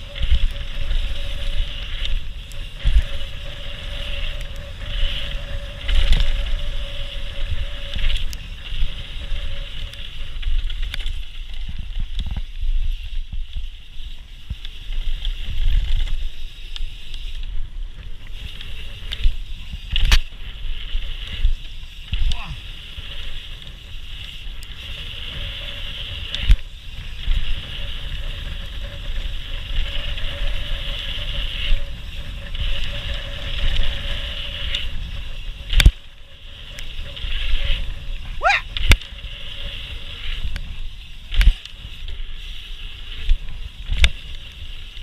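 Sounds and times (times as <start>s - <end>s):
wind and tyre rumble: 0.0s - 45.0s.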